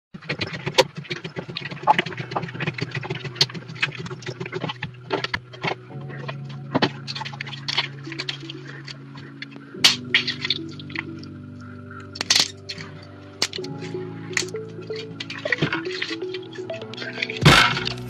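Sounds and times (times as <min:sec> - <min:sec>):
background music: 0:02.5 - 0:18.0.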